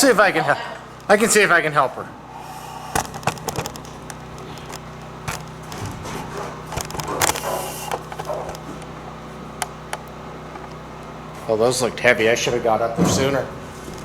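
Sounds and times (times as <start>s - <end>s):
low hum: 0.0s - 12.1s.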